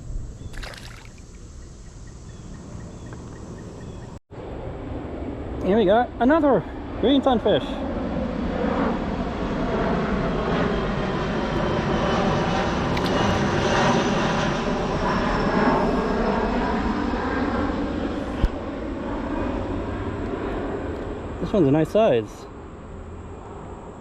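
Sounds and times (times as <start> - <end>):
propeller airplane engine drone: 0.0 - 24.0.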